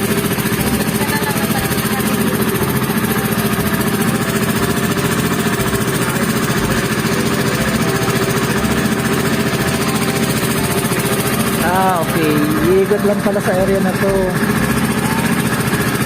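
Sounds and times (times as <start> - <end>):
boat engine pulsing: 0.0 - 16.0.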